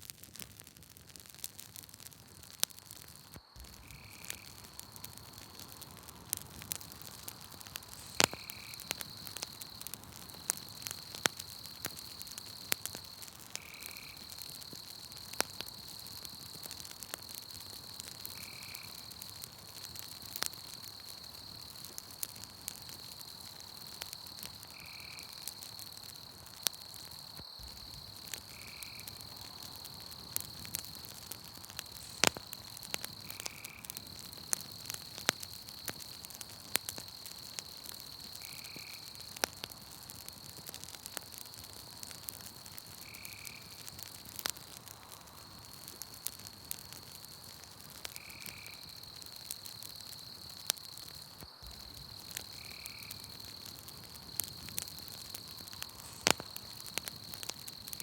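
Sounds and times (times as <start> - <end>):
campfire crackling and popping: 0.0 - 58.0
night insects trilling: 2.0 - 58.0.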